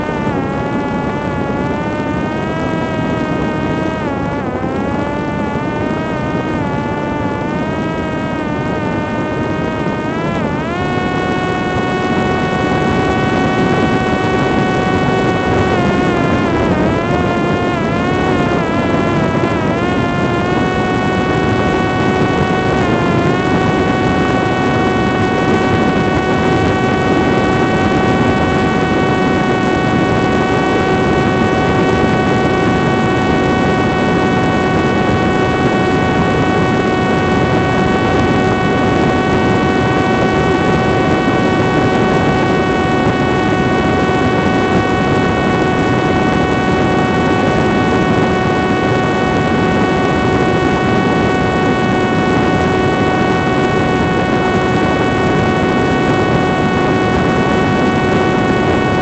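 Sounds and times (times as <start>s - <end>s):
electric motor and propeller whining: 0.0s - 59.0s
wind noise: 0.0s - 59.0s.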